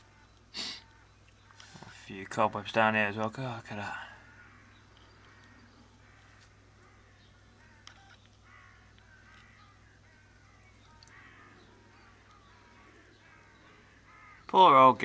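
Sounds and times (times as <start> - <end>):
faint crows cawing: 0.0 - 15.0.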